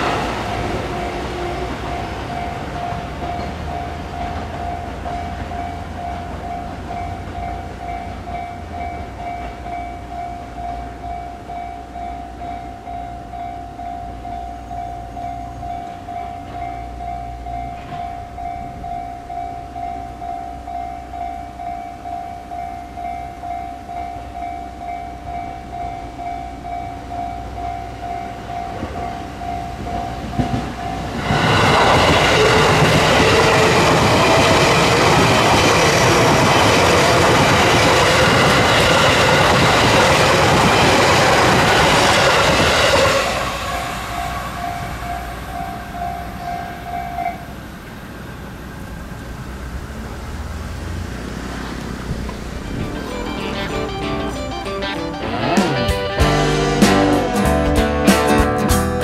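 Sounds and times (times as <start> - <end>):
level-crossing warning bell: 0.0 - 50.0, 52.3 - 56.8
electric train passing: 0.0 - 57.6.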